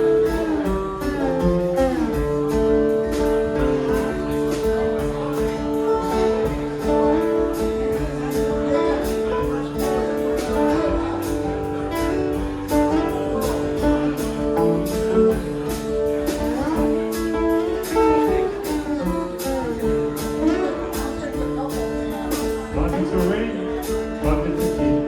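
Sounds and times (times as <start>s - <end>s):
slide guitar: 0.0s - 25.0s
strummed guitar: 0.0s - 25.0s.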